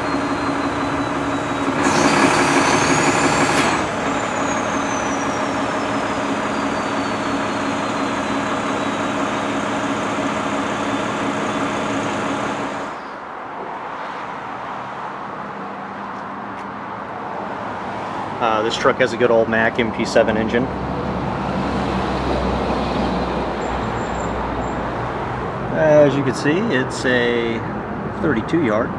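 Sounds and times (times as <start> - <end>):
diesel truck engine running: 0.0 - 13.0, 16.8 - 28.9.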